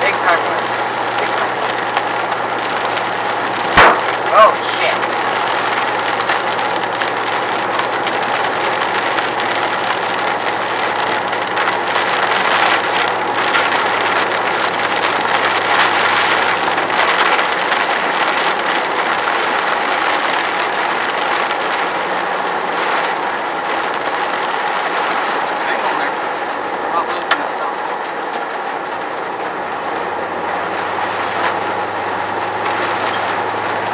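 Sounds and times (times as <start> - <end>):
hail drumming on a car: 0.0 - 33.9
low engine hum: 0.0 - 33.9.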